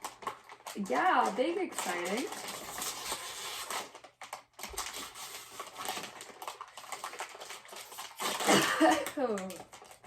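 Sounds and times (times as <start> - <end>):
plastic chip bag crinkling: 0.0 - 10.0.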